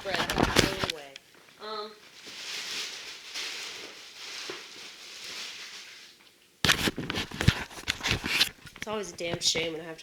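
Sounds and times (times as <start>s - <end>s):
plastic bag rustling and crinkling: 0.0s - 1.2s, 2.0s - 9.8s.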